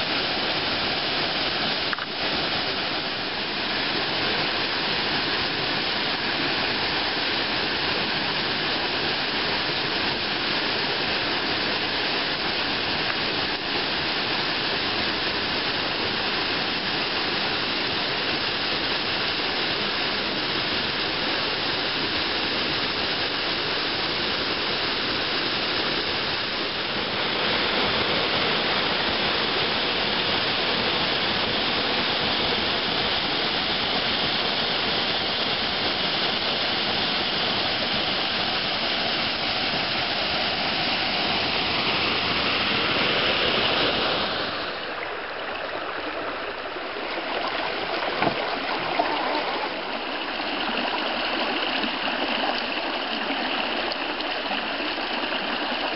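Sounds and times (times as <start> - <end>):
waterfall pouring onto rocks: 0.0 - 45.0, 46.8 - 55.9
creek running over rocks: 0.0 - 55.9.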